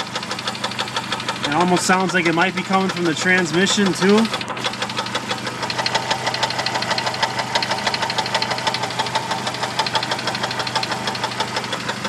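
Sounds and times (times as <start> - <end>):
car engine idling with rapid knock: 0.0 - 12.0.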